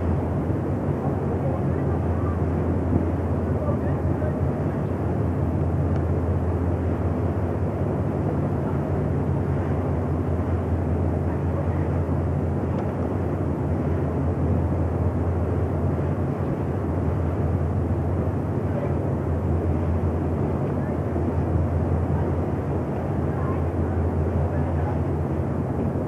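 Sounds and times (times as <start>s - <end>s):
ferry engine drone: 0.0s - 26.0s.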